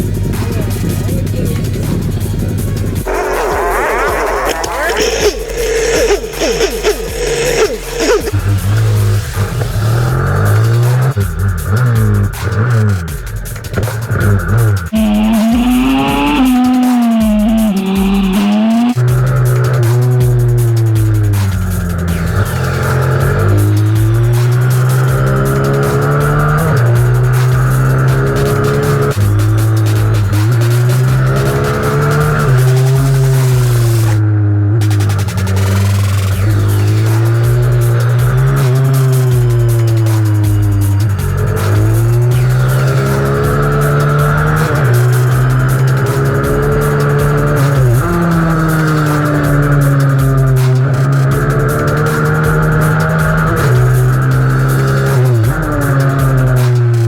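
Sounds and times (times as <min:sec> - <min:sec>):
racing minibike engine: 0:00.0 - 0:57.0.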